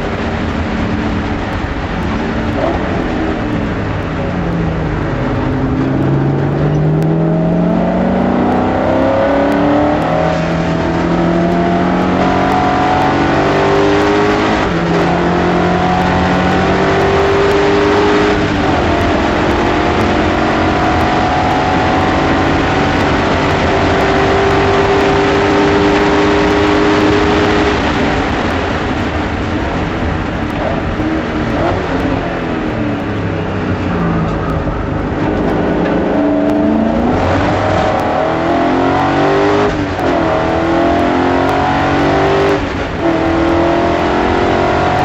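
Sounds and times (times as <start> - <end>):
race car engine accelerating: 0.0 - 45.0.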